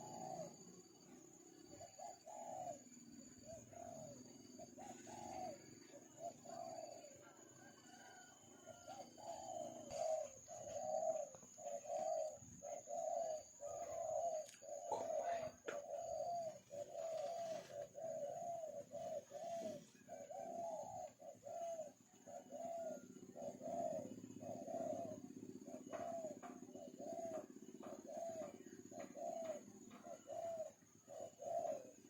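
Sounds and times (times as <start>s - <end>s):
dove cooing: 0.0s - 32.0s.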